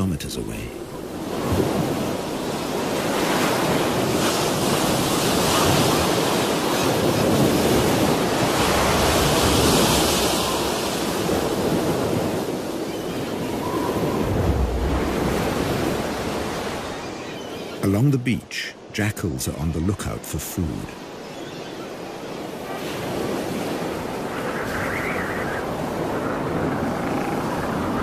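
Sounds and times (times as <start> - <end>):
surf: 0.0 - 28.0
strong wind: 0.8 - 17.2, 21.8 - 28.0.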